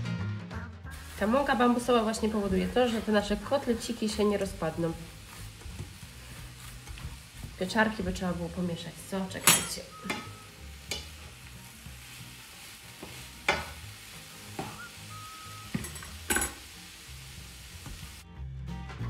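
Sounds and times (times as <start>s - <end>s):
background music: 0.0s - 19.0s
vegetables sizzling in a frying pan: 0.9s - 18.2s.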